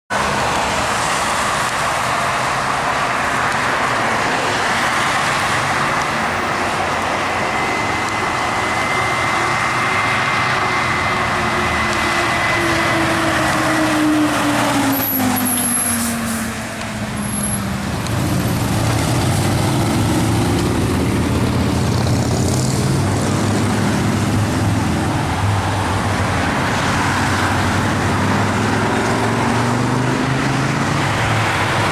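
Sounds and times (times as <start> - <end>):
fire engine running: 0.1 - 31.9.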